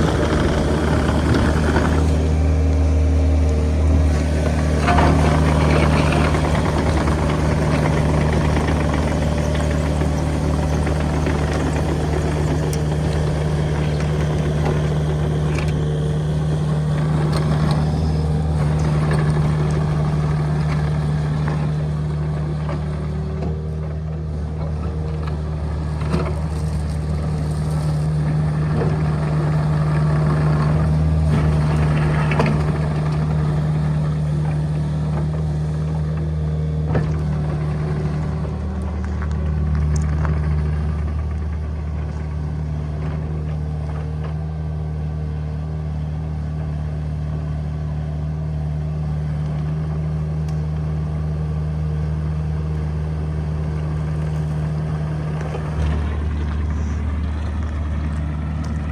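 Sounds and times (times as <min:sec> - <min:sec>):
earthmoving machine engine running: 0:00.0 - 0:58.9.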